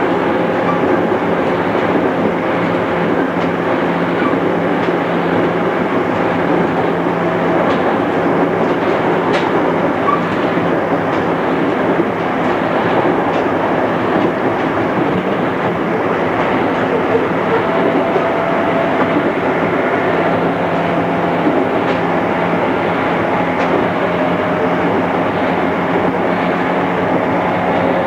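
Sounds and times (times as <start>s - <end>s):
train wheels rumbling: 0.0s - 28.0s
wheels clicking over rail joints: 0.0s - 28.0s.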